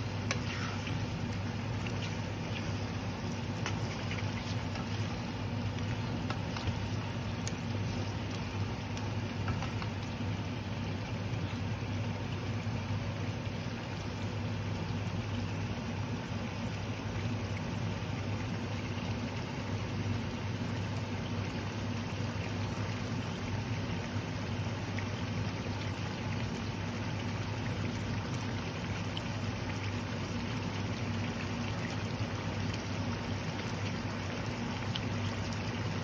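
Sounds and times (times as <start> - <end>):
curry bubbling in a wok: 0.0 - 36.0.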